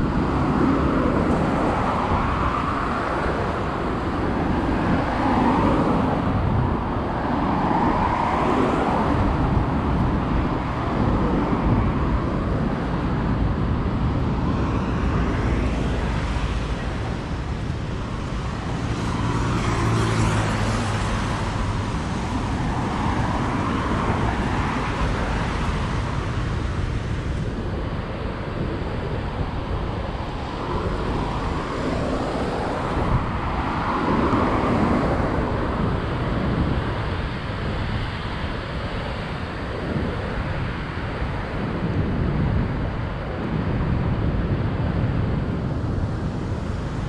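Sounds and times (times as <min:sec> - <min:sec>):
vehicle engine hum passing close: 0:00.0 - 0:41.5
cars driving past: 0:00.0 - 0:47.0.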